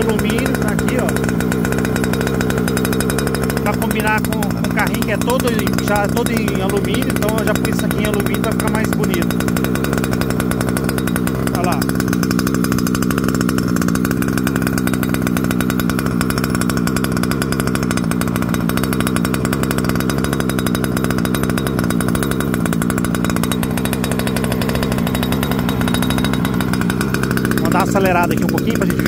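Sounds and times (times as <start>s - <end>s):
small two-stroke engine idling: 0.0s - 29.0s.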